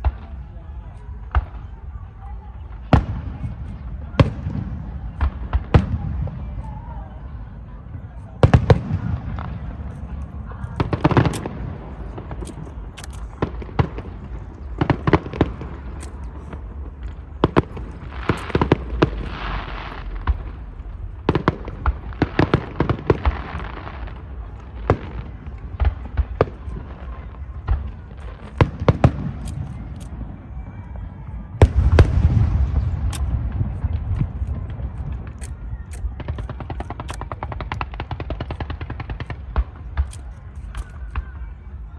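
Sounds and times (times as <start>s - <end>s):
fireworks bangs: 0.0s - 41.8s.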